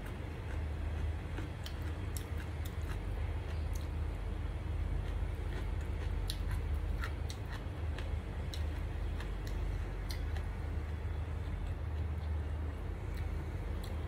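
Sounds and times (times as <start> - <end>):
chewing and mouth smacks: 0.0 - 4.2, 5.0 - 12.5, 13.1 - 14.0
low hum: 0.0 - 14.0.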